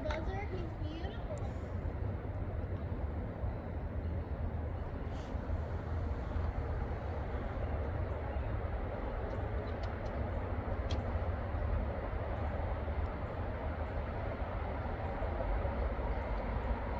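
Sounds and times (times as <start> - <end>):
highway traffic rumble: 0.0 - 16.9.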